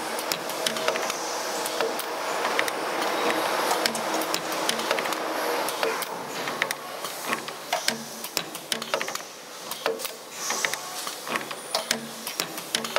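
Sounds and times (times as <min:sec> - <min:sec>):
metallic clicks and clacks: 0:00.2 - 0:12.9.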